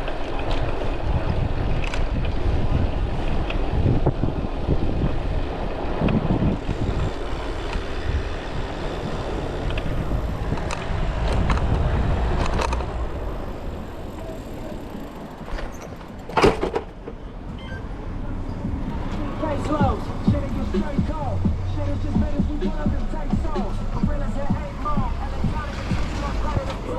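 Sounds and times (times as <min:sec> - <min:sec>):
wind rumbling on microphone: 0:00.0 - 0:16.2, 0:18.3 - 0:26.9
street traffic: 0:00.0 - 0:26.9.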